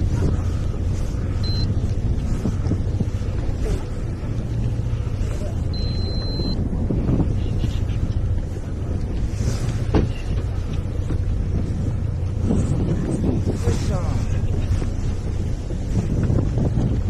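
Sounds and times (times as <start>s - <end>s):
boat engine rumble: 0.0s - 17.0s
wind on microphone: 0.0s - 17.0s.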